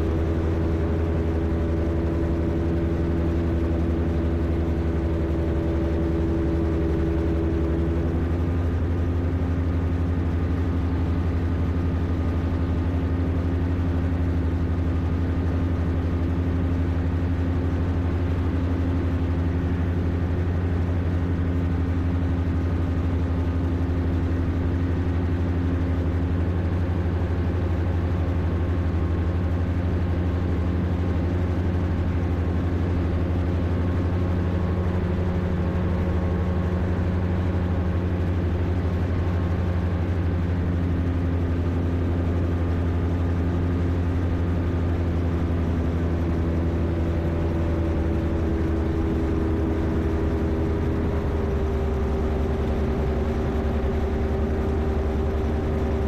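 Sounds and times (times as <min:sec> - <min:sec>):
microlight engine droning: 0:00.0 - 0:56.0.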